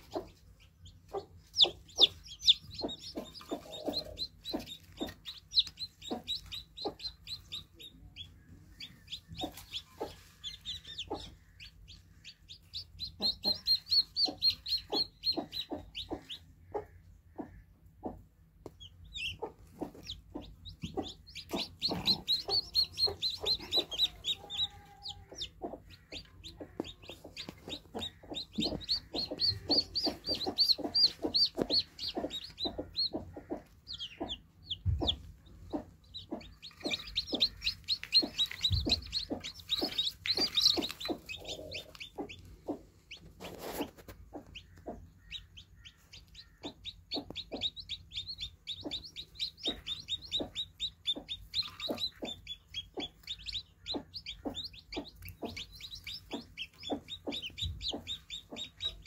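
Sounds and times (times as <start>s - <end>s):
chicks peeping: 0.0s - 59.0s
hen clucking: 0.0s - 59.0s.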